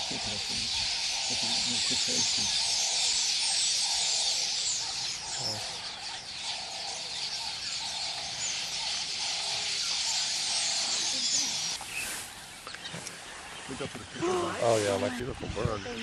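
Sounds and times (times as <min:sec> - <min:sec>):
low bird call: 0:00.0 - 0:14.8
birds chirping and calling: 0:00.0 - 0:16.0.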